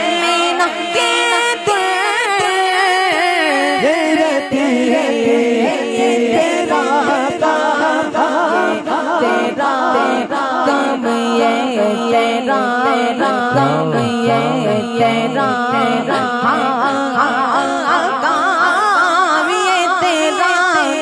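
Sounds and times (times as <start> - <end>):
unaccompanied voices singing: 0.0 - 21.0.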